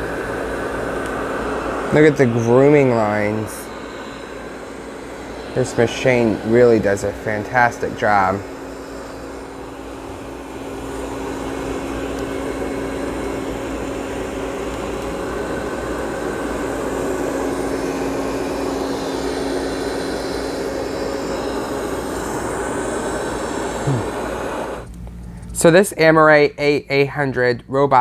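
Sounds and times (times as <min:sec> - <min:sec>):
robot vacuum running on carpet: 0:00.0 - 0:24.9.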